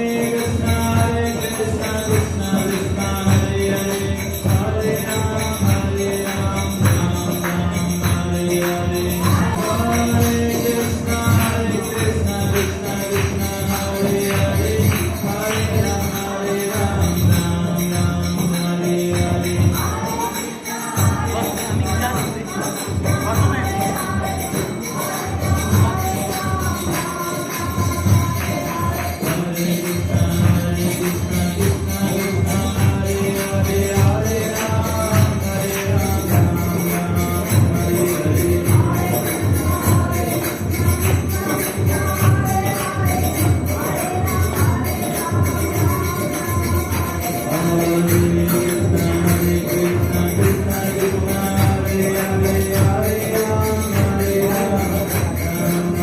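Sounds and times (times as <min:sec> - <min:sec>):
jingling percussion: 0:00.0 - 0:56.0
drum beat: 0:00.1 - 0:20.2, 0:21.0 - 0:56.0.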